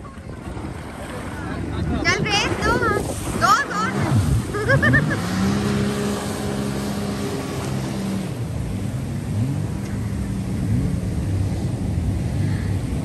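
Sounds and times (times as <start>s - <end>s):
jet ski engine: 0.0s - 13.0s
water and wind rushing: 0.0s - 13.0s.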